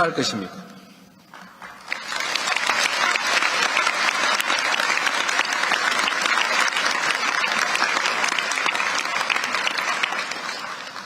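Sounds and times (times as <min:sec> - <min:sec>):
large audience applauding: 0:01.3 - 0:11.0.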